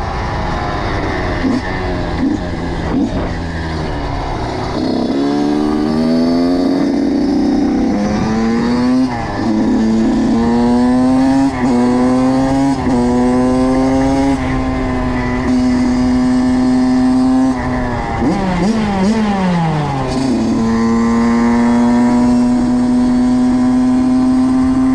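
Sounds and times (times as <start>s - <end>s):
motocross engine accelerating: 0.9s - 24.9s.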